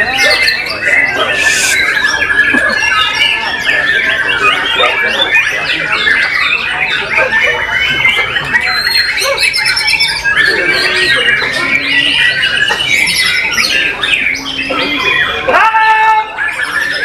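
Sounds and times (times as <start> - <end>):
birds singing whistles and trills: 0.0 - 17.0.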